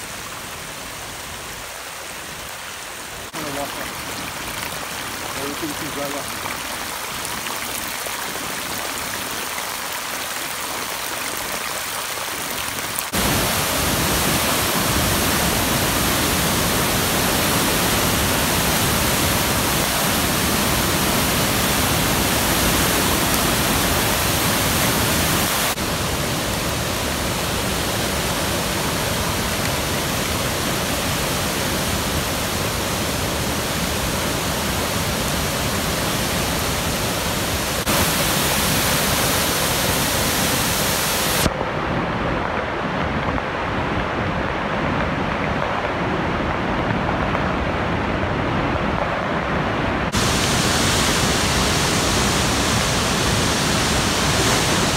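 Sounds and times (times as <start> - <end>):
floodwater gushing: 0.0 - 41.9, 50.1 - 54.9
river rushing over falls: 0.0 - 54.9.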